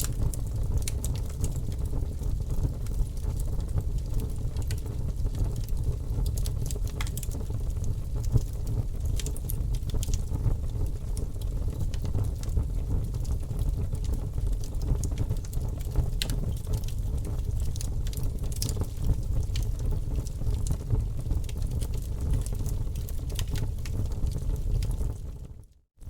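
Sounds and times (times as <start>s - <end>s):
wood fire crackling: 0.0s - 25.8s.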